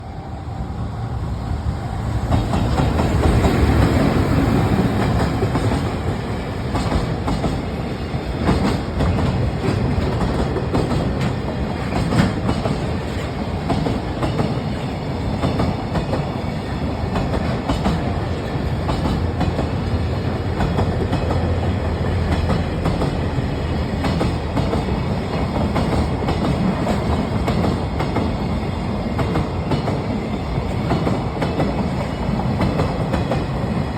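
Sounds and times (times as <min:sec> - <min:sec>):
train wheels clacking over rails: 0:02.1 - 0:33.9.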